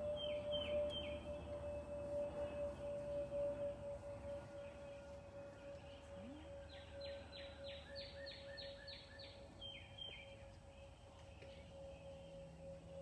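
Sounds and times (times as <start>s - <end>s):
songbird whistling: 0.0s - 12.4s
faint steady tone: 0.0s - 13.0s.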